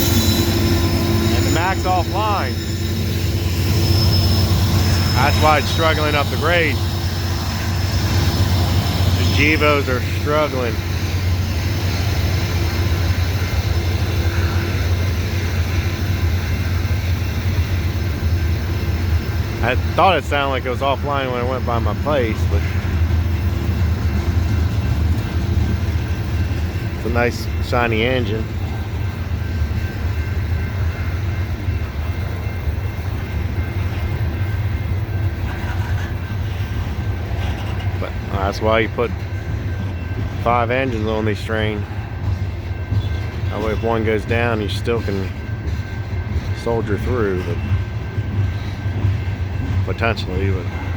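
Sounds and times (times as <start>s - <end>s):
diesel locomotive engine drone: 0.0s - 50.9s
freight train deep rumble: 0.0s - 50.9s.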